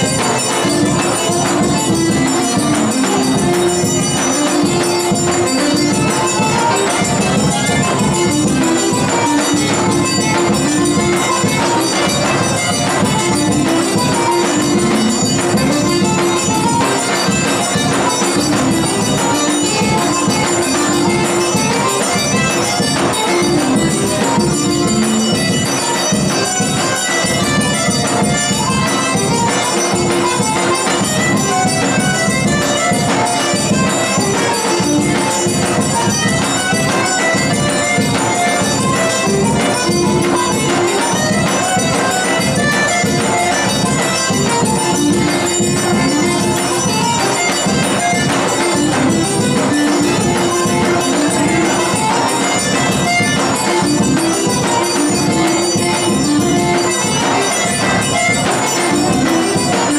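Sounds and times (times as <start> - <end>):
button accordion folk tune: 0.0 - 59.9.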